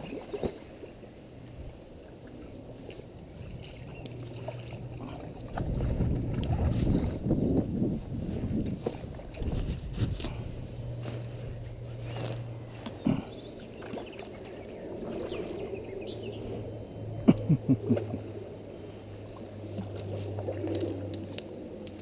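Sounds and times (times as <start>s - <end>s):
pond aerator humming: 0.0s - 22.0s
water churning: 0.0s - 22.0s.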